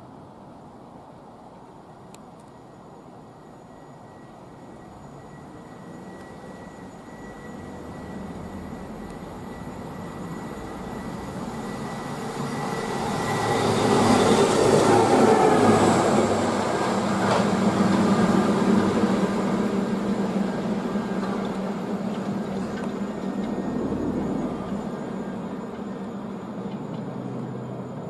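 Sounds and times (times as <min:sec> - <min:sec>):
rail machine passing on tracks: 0:00.0 - 0:28.0.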